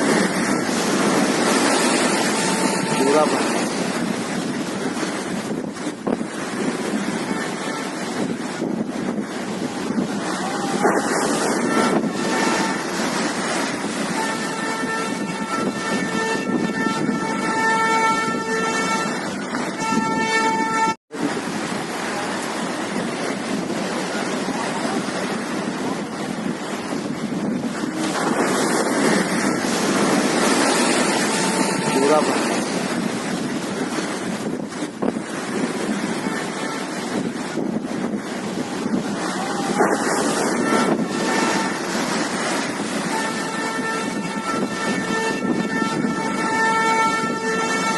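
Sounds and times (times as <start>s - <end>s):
sea waves roaring: 0.0s - 47.9s
wind buffeting microphone: 0.0s - 47.9s.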